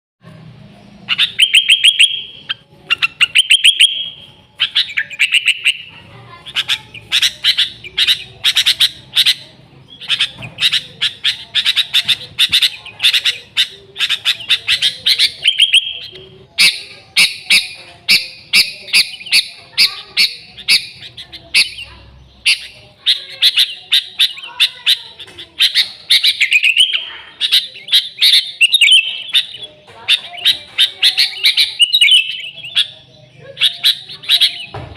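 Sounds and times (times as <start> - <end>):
bulbul singing: 0.2 - 34.9.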